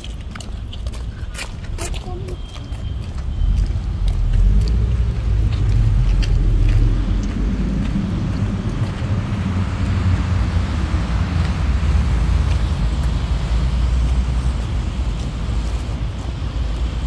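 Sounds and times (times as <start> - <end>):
footsteps on wet paving: 0.0 - 17.0
low rumble: 3.3 - 17.0.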